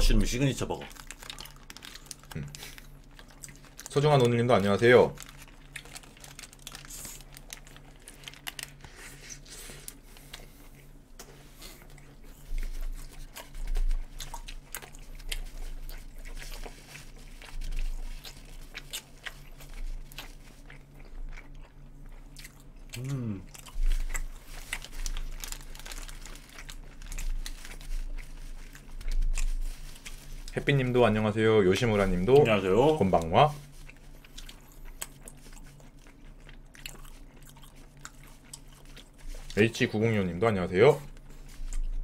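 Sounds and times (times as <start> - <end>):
people chewing food: 0.0 - 42.0.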